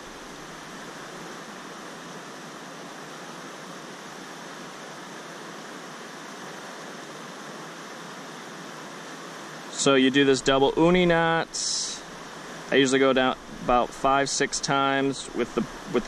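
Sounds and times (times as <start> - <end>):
river water over rocks: 0.0 - 16.0.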